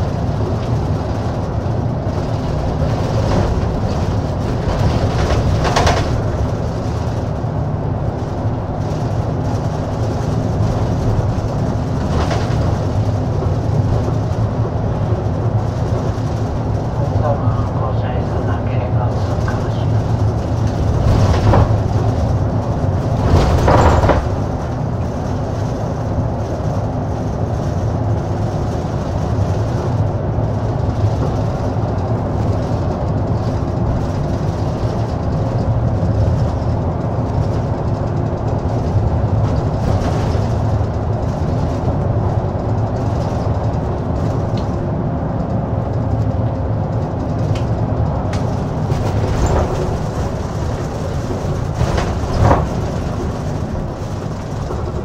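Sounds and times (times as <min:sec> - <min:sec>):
bus engine hum: 0:00.0 - 0:55.0
road and body noise: 0:00.0 - 0:55.0.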